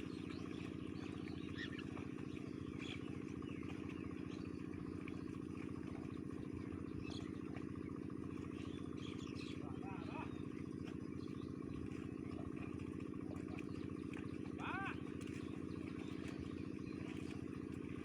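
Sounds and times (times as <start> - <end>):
birds chirping: 0.0 - 18.0
small engine running: 0.0 - 18.0.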